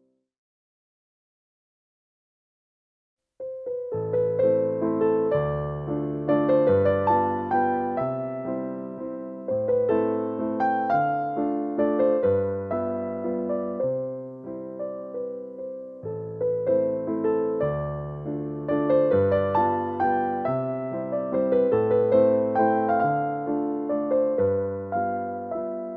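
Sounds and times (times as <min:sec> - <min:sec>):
gentle solo piano piece: 0:03.4 - 0:25.9.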